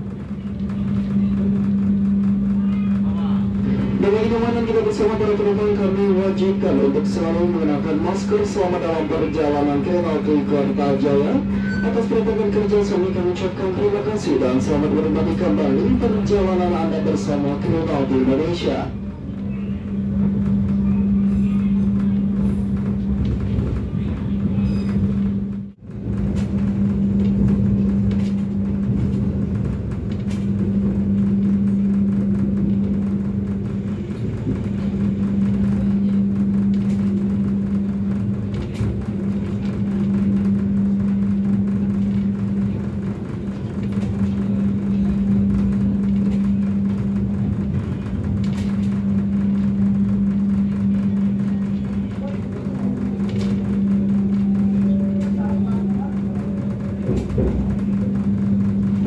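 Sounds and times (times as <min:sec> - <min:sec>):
constant hum: 0:00.0 - 0:59.0
train rumbling inside coach: 0:00.0 - 0:59.0.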